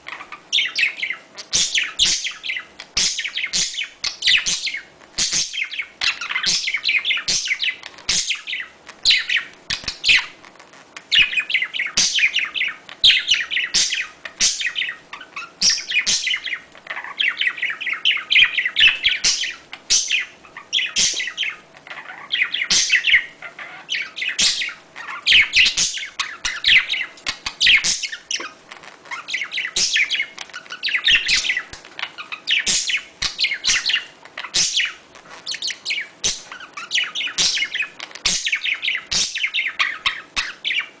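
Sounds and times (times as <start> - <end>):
budgerigars chattering and warbling: 0.1 - 10.4, 11.1 - 41.0.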